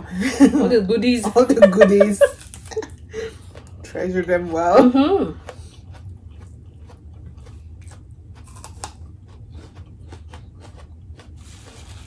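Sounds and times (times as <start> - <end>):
low steady hum: 0.0 - 12.0
people chewing and biting food: 2.3 - 12.0.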